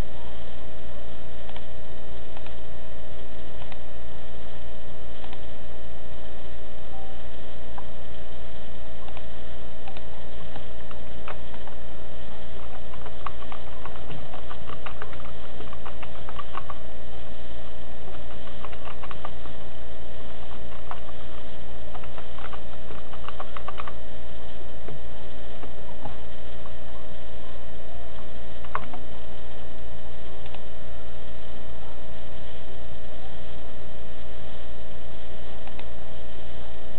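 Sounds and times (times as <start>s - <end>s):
steady electrical hum: 0.0s - 36.9s.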